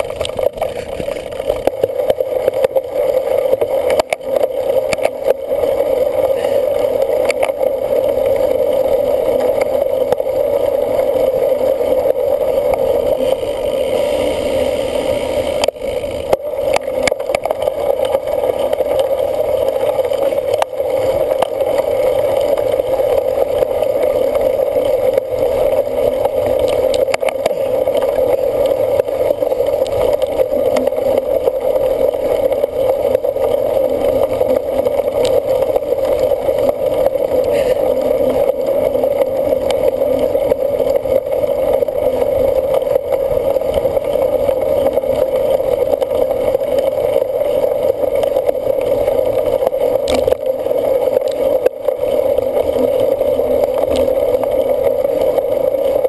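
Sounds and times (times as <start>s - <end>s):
bike rolling noise: 0.0s - 56.0s.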